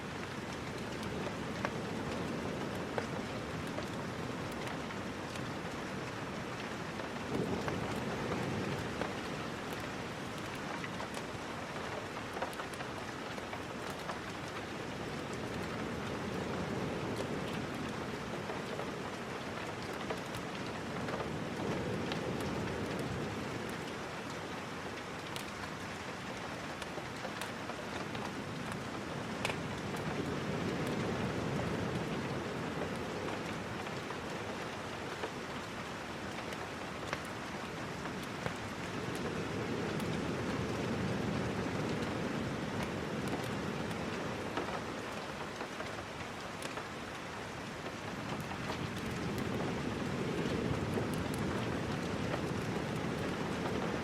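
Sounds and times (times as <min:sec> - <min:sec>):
sharp ticks of raindrops: 0:00.0 - 0:54.0
steady rain: 0:00.0 - 0:54.0.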